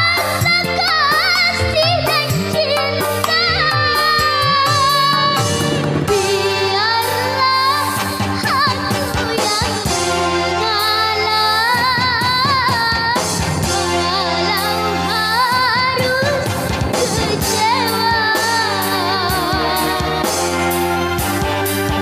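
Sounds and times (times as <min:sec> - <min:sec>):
girl singing with vibrato: 0:00.0 - 0:20.6
band accompaniment: 0:00.0 - 0:22.0.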